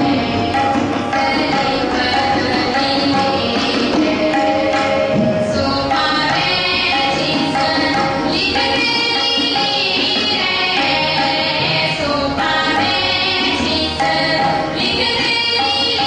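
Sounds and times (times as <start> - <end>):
harmonium chords: 0.0 - 16.0
tabla drumming: 0.0 - 16.0
young voices singing: 0.0 - 16.0.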